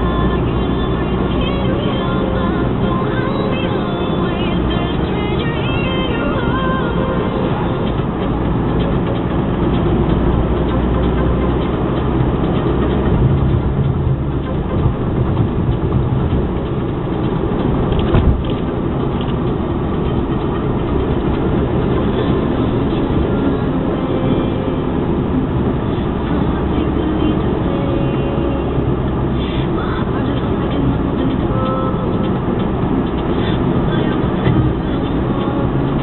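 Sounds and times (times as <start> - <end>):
tyre and engine rumble: 0.0 - 36.0.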